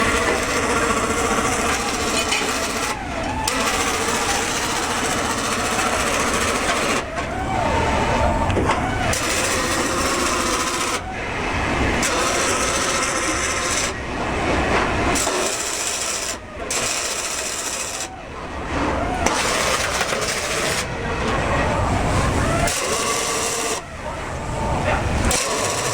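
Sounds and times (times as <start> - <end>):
crackling rasping welding noise: 0.0 - 25.9
wavering machine whines: 0.0 - 25.9.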